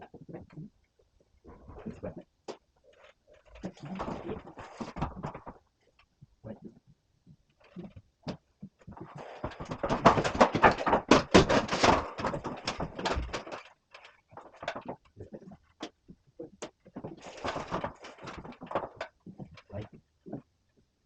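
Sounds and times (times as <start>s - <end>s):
hard objects clattering and knocking: 1.5s - 6.0s, 7.6s - 20.0s.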